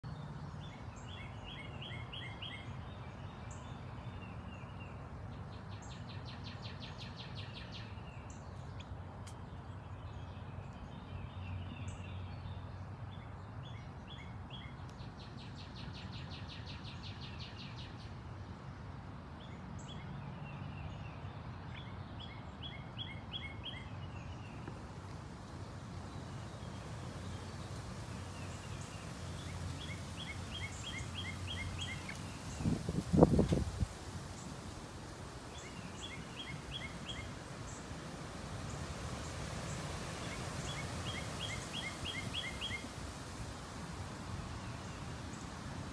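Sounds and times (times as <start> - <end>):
birds chirping: 0.0 - 18.1, 19.4 - 45.9.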